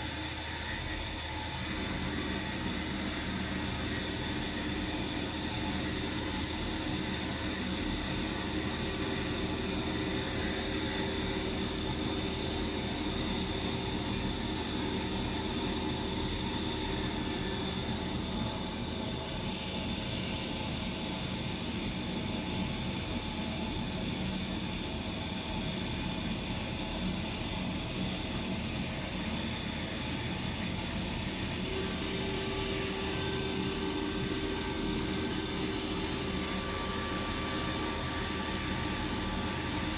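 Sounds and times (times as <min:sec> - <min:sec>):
machine whine and hum: 0:00.0 - 0:39.9.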